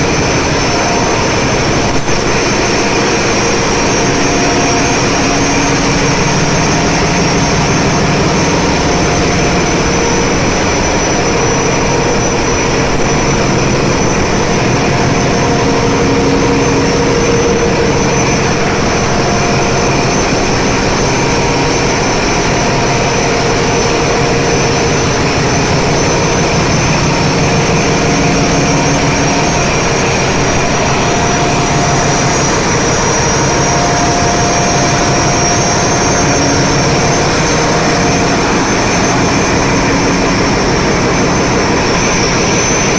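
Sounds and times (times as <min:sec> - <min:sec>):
engine room machinery din: 0:00.0 - 0:42.9
high machine whine: 0:00.0 - 0:42.9.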